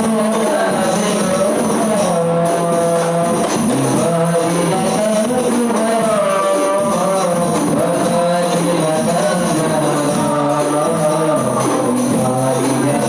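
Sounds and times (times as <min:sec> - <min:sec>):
frame drums playing rhythm: 0:00.0 - 0:13.0.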